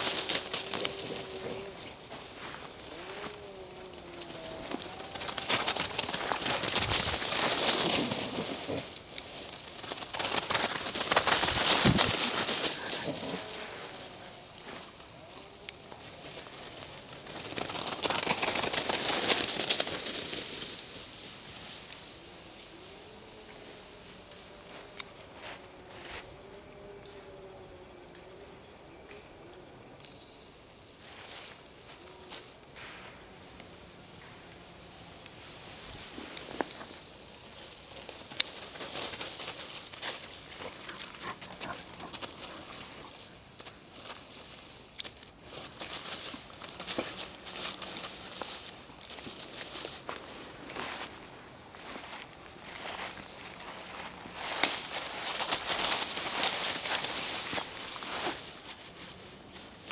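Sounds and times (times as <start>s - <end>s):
dry leaves crackling under running feet: 0.0s - 26.2s, 30.9s - 59.9s.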